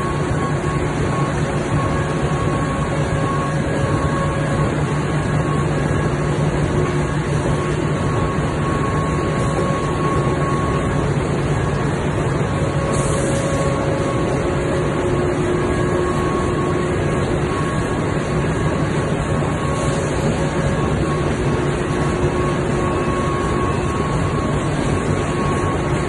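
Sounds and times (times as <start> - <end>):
factory machinery hum: 0.0 - 26.0
faint machine whining tones: 0.0 - 26.0.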